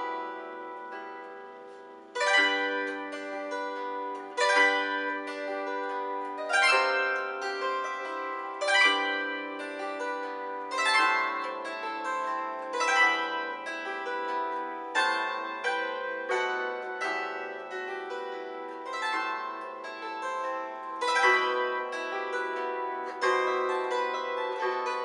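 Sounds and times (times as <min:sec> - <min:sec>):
zither-like string instrument melody: 0:00.0 - 0:25.0.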